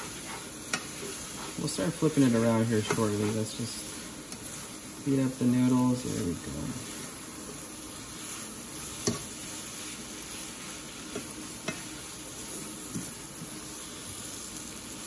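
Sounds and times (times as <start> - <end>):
noodles sizzling in saucepan: 0.0 - 15.0.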